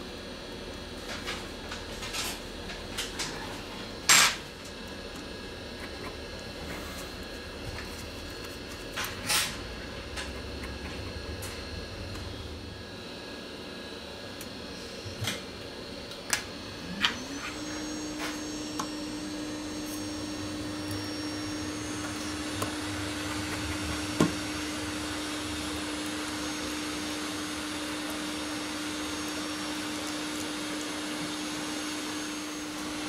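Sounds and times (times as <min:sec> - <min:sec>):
small electric motor humming: 0:00.0 - 0:33.0.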